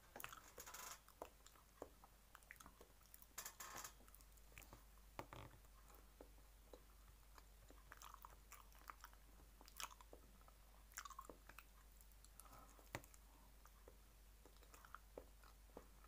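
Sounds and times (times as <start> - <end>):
chewing with mouth clicks: 0.2 - 3.3, 4.1 - 4.8, 5.8 - 16.0.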